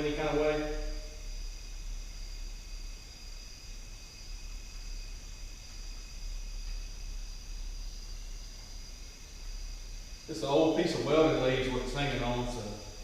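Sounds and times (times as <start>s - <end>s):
crickets chirring: 0.0s - 13.0s
low hum: 0.0s - 13.0s.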